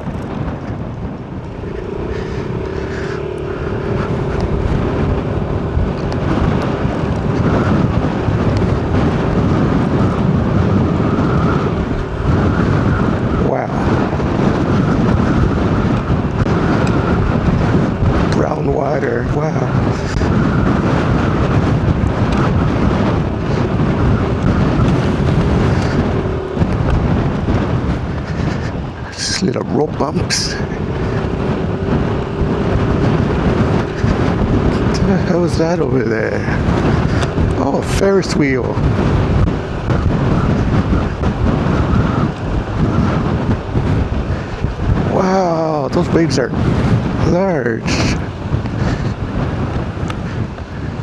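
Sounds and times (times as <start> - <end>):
car road and wind noise: 0.0 - 51.0
wind buffeting microphone: 0.0 - 51.0.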